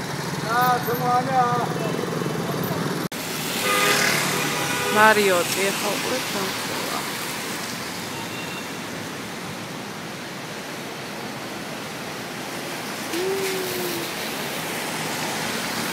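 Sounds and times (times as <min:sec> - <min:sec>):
city street traffic noise: 0:00.0 - 0:15.9.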